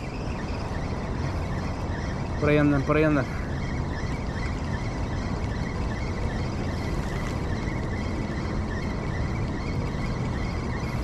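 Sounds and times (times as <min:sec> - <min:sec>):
rushing outdoor noise: 0:00.0 - 0:11.0.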